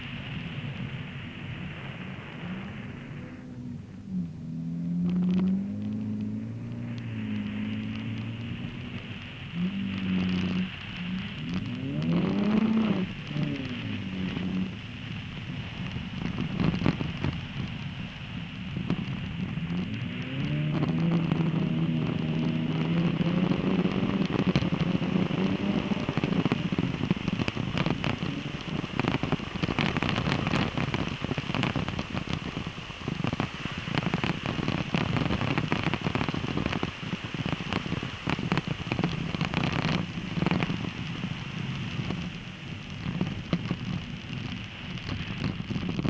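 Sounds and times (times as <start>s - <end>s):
tyres crackling on icy snow: 0.0s - 46.0s
car engine revving: 0.3s - 46.0s.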